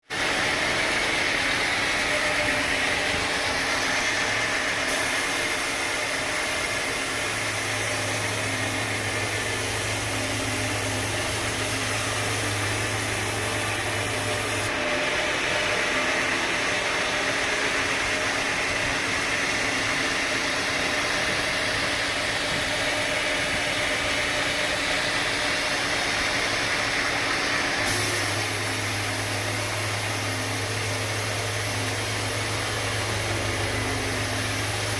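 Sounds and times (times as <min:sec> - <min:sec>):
sawmill machinery drone and hiss: 0:00.0 - 0:34.9.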